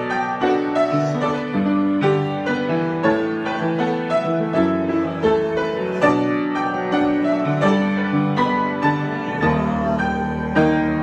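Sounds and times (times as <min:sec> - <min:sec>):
grand piano improvising: 0:00.0 - 0:11.0.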